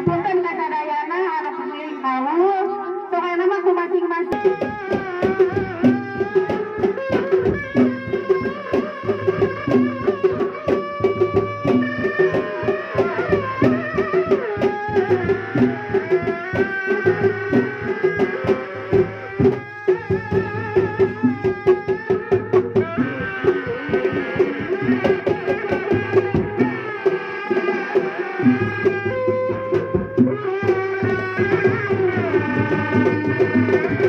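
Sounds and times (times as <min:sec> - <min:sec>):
frame drums beating: 0:04.3 - 0:34.0
shrill shawm melody: 0:04.4 - 0:34.0.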